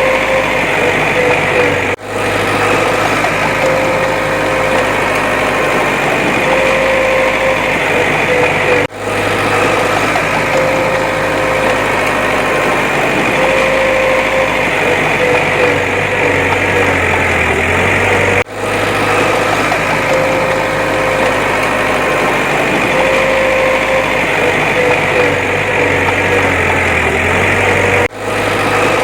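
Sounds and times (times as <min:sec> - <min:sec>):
bulldozer diesel engine under load: 0:00.0 - 0:29.0.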